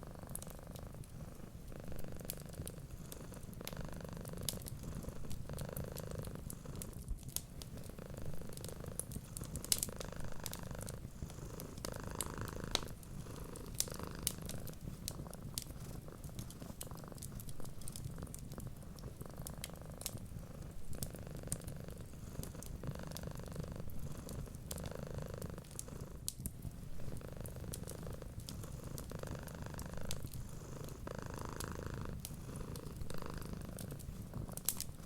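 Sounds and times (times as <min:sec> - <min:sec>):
wood fire crackling: 0:00.0 - 0:03.7, 0:04.3 - 0:35.0
cat purring: 0:00.0 - 0:35.0.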